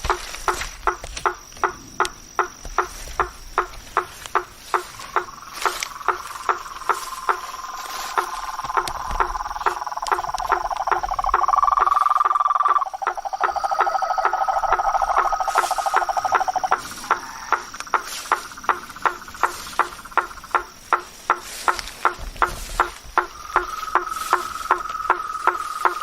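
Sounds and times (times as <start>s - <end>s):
frogs trilling chorus: 0.0s - 26.0s
high insect whine: 0.0s - 26.0s
tree frogs knocking calls: 0.0s - 26.0s.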